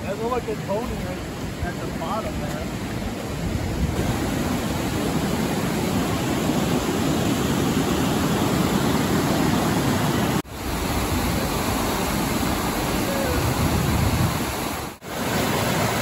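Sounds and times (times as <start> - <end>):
whitewater rapids rushing: 0.0 - 16.0.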